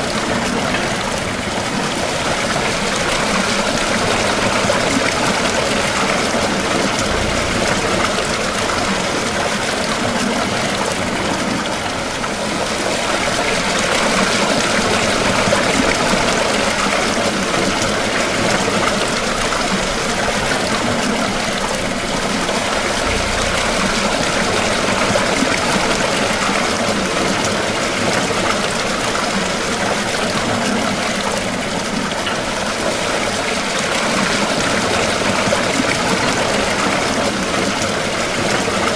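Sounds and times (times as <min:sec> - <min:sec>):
water pouring and splashing: 0:00.0 - 0:38.9.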